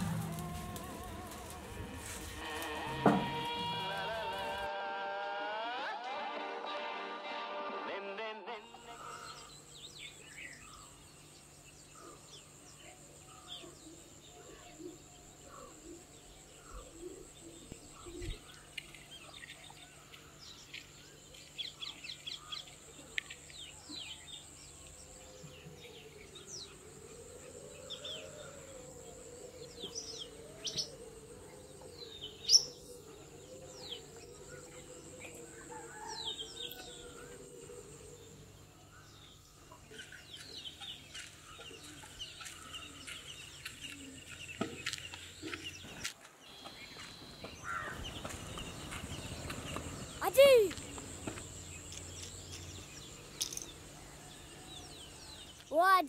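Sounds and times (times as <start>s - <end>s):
small birds chirping: 8.8s - 56.0s.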